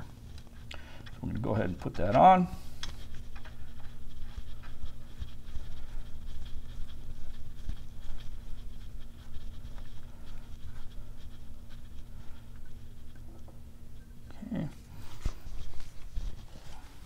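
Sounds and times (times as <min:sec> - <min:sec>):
faint scratching and metal ticks: 0:00.0 - 0:16.9
steady low hum: 0:00.0 - 0:17.0.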